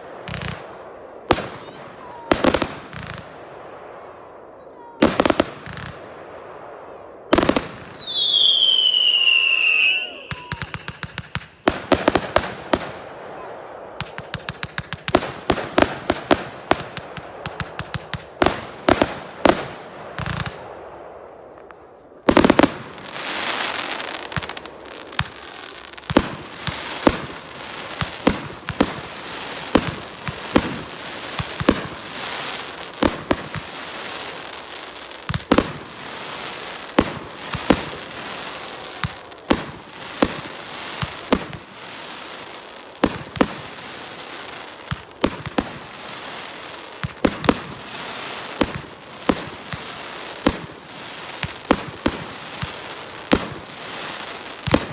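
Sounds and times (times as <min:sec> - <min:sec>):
fireworks bangs: 0:00.0 - 0:54.9
fireworks crackling hiss: 0:00.0 - 0:54.9
loud firework burst: 0:06.7 - 0:54.9.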